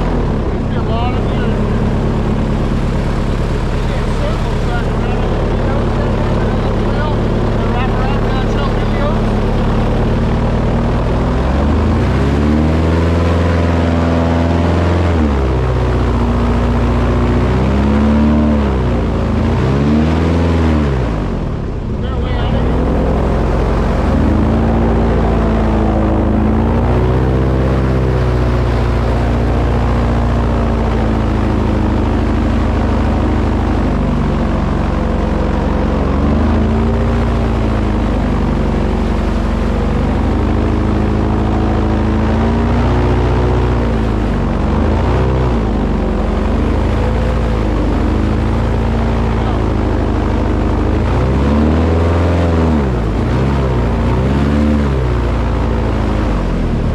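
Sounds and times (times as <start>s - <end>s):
engine revving up and down: 0.0s - 56.9s.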